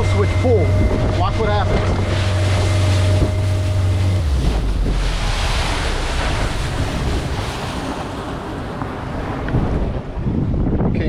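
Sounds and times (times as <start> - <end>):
water splashing: 0.0 - 10.3
boat engine: 0.0 - 10.8
wind on microphone: 0.0 - 11.0.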